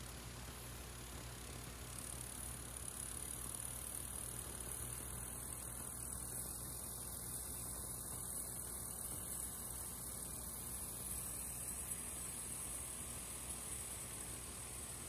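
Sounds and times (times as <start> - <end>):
hiss: 0.0 - 15.0.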